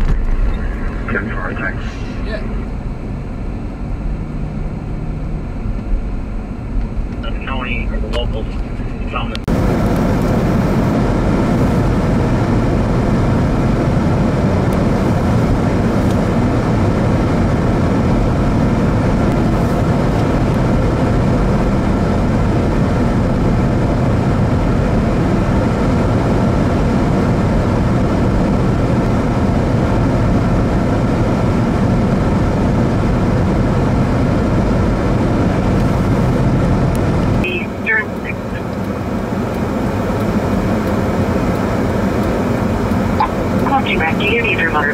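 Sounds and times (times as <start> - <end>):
vehicle rumble and road noise: 0.0 - 44.9.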